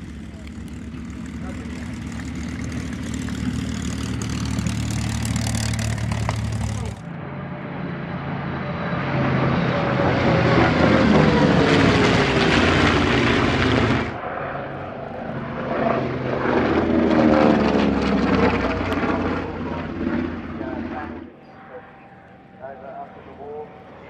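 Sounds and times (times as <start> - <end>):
propeller aircraft flying past: 0.0 - 24.0
radial-engined aircraft passing overhead: 0.0 - 24.0.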